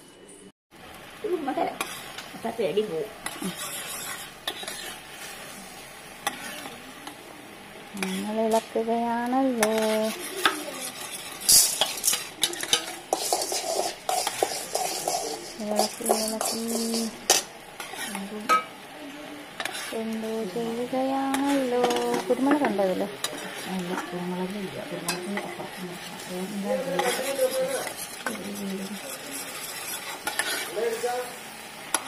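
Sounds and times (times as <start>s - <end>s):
soft sizzle: 0.0s - 32.0s
metal spoon scraping a pan: 1.6s - 7.3s, 7.9s - 18.7s, 19.5s - 32.0s.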